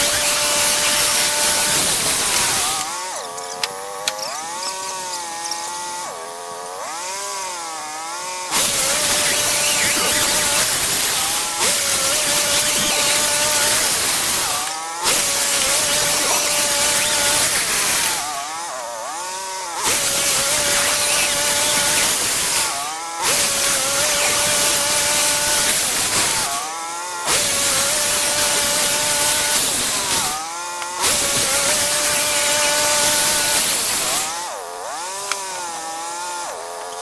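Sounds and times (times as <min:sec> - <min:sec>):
bandsaw sawmill cutting logs: 0:00.0 - 0:37.0.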